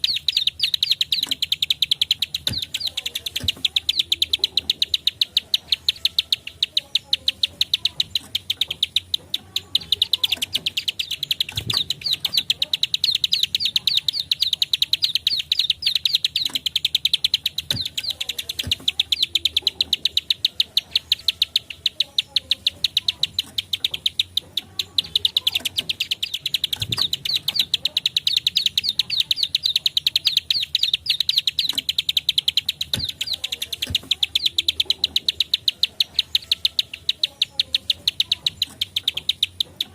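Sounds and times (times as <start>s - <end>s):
bird rapid clicking call: 0.0s - 39.9s.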